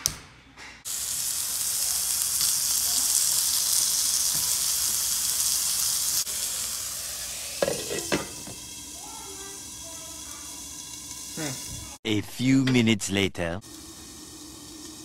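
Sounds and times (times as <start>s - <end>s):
meat sizzling in a skillet: 0.9s - 12.0s, 13.6s - 15.0s.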